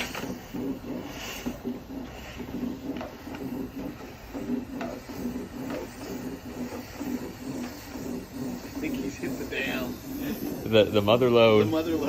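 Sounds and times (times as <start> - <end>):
rhythmic mechanical whirring: 0.0 - 12.0.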